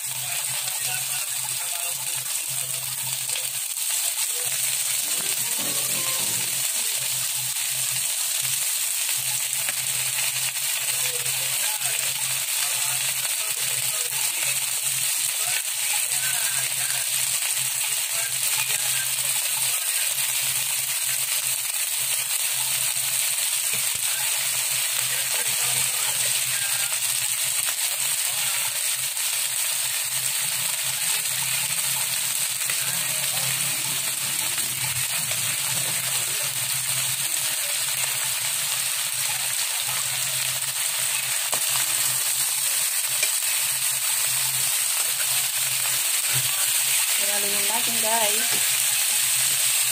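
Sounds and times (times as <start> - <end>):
meat sizzling in a wok: 0.0 - 49.9.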